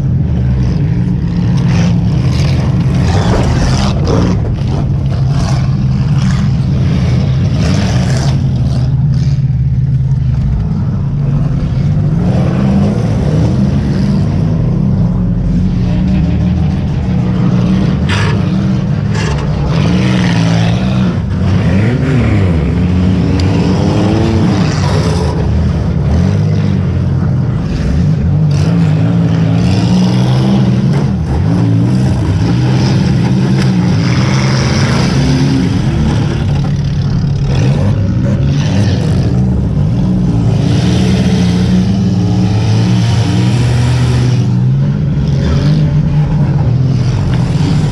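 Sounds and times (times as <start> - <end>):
car engine revving: 0.0 - 47.9.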